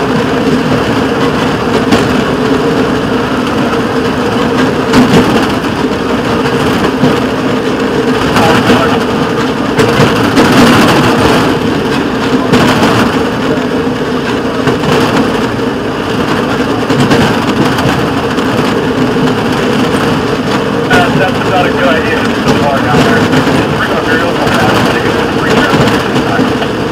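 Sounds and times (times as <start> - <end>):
constant rushing noise: 0.0 - 26.9.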